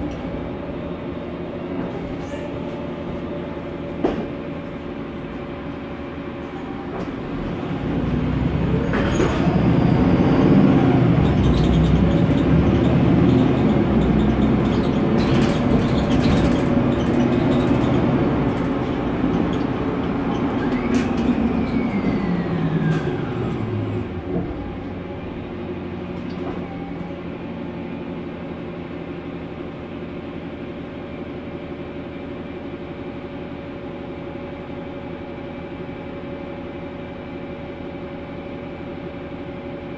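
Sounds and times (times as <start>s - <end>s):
bus engine cabin noise: 0.0s - 39.9s.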